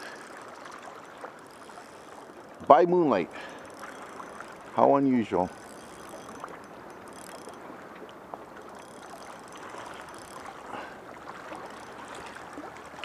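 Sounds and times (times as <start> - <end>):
small waves washing on shore: 0.0 - 13.0.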